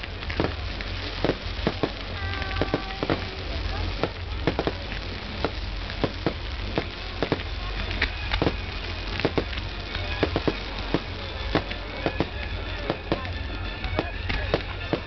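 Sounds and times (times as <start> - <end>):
bonfire crackling and popping: 0.0 - 15.0
low rumble: 0.0 - 15.0.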